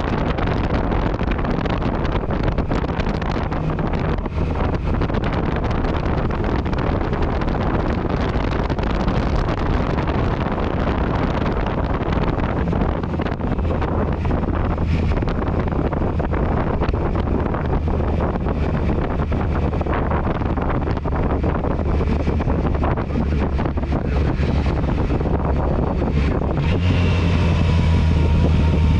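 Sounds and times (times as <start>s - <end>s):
motorcycle engine running: 0.0s - 28.9s
wind buffeting microphone: 0.0s - 28.9s.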